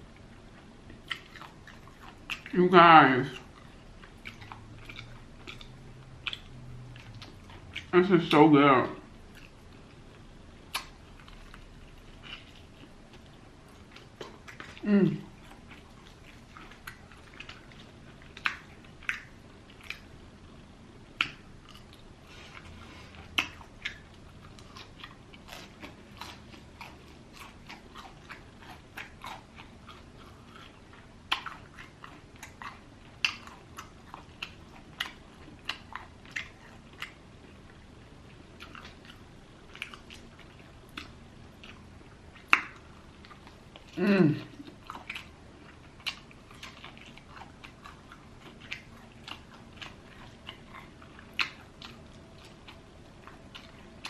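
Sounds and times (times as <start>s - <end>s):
crunchy chewing of fried chicken: 0.0s - 54.0s.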